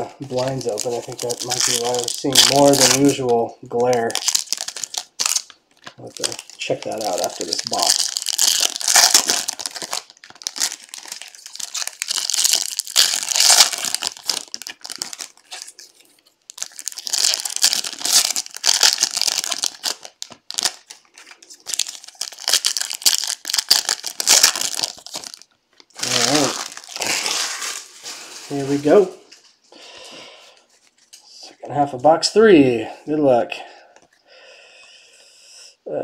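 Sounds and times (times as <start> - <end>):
foil wrappers tearing and crinkling: 0.3 - 29.1.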